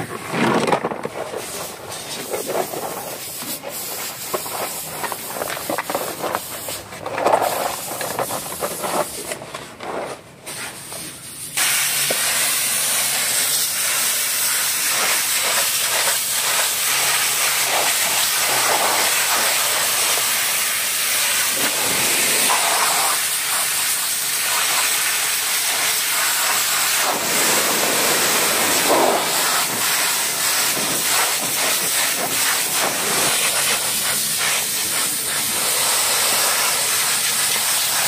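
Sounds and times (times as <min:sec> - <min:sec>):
brush scrubbing rubber mat: 0:00.2 - 0:11.2, 0:14.8 - 0:20.4, 0:21.4 - 0:25.1, 0:25.7 - 0:38.0
pressure washer spray hissing: 0:01.4 - 0:08.8, 0:10.5 - 0:38.0.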